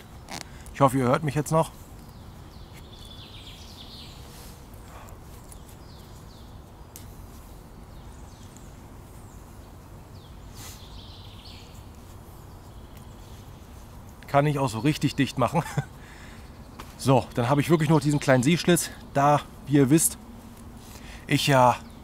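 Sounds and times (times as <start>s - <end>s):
low steady background noise: 0.0s - 22.0s
small birds chirping: 0.0s - 22.0s.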